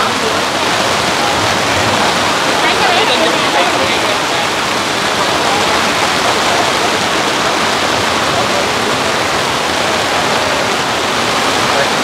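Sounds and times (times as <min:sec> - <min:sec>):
heavy rain on a tarp: 0:00.0 - 0:12.0.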